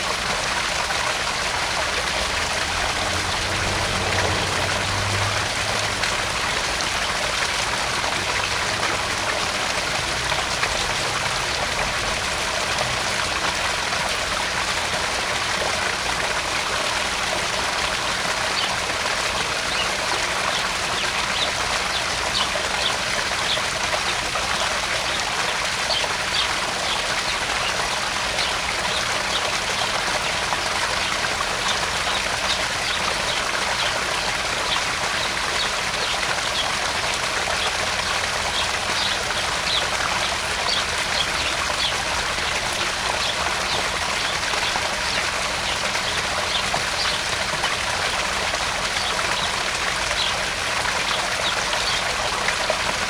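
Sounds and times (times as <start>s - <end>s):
waterfall splashing into pond: 0.0s - 53.0s.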